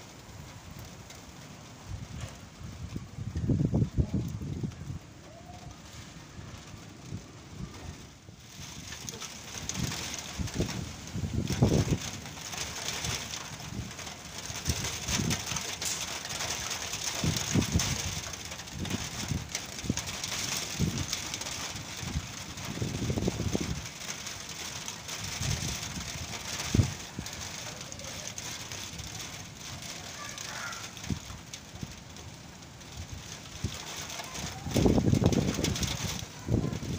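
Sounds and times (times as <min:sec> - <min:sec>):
rain hissing: 0:00.0 - 0:36.9
wind rumbling on microphone: 0:01.7 - 0:36.9.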